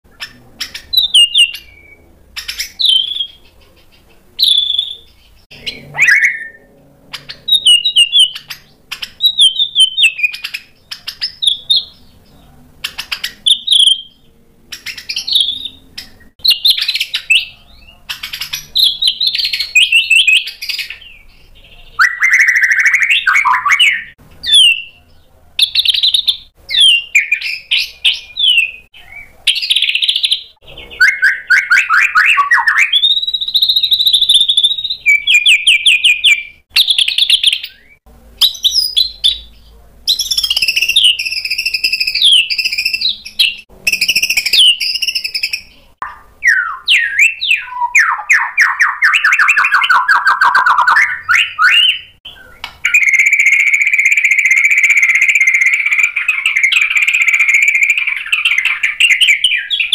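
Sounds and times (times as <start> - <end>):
songbird whistling and trilling: 0.1 - 3.5, 4.4 - 12.0, 12.8 - 21.4, 22.0 - 25.0, 25.6 - 39.5, 40.1 - 59.9.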